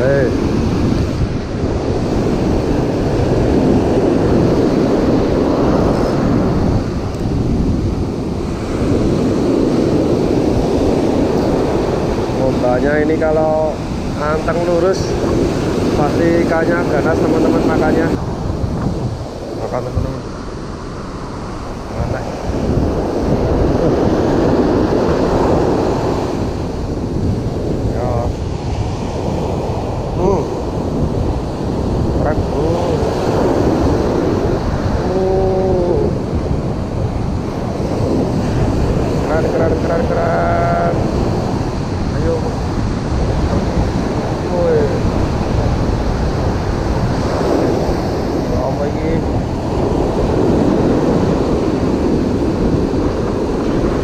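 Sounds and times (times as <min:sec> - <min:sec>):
ocean surf breaking: 0:00.0 - 0:54.0
wind rumbling on microphone: 0:00.0 - 0:54.0.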